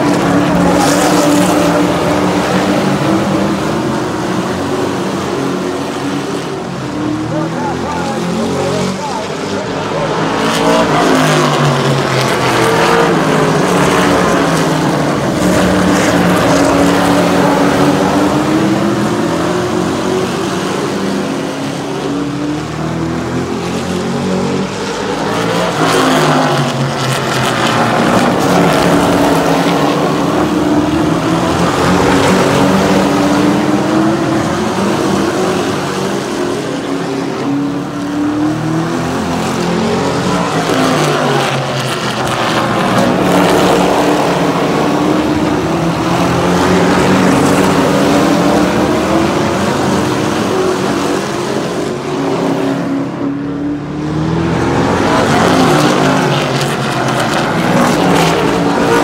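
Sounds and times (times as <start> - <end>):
racing truck engines: 0.0 - 59.0.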